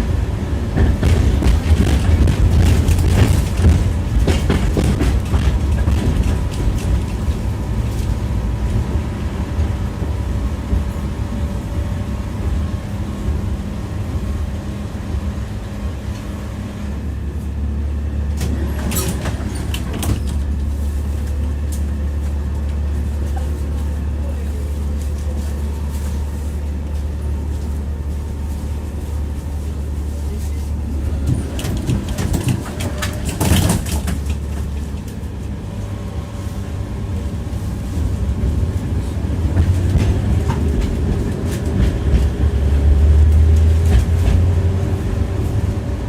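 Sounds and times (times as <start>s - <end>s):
tram wheels rumbling on rails: 0.0s - 46.0s.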